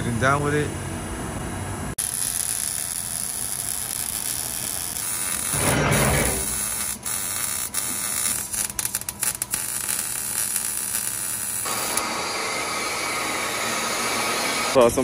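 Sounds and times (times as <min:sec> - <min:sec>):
arc welding buzzing crackle: 0:02.0 - 0:15.0.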